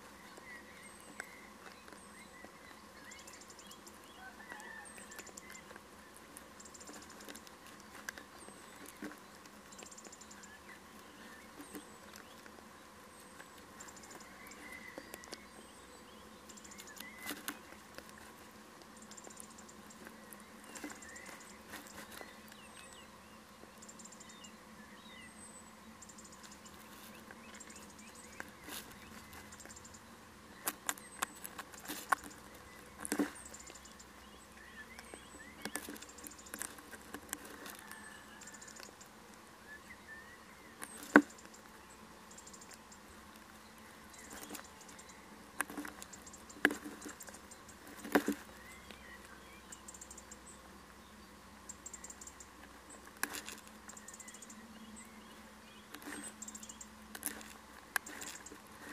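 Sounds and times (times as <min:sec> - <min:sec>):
owl scratching and rustling: 0:00.0 - 0:58.9.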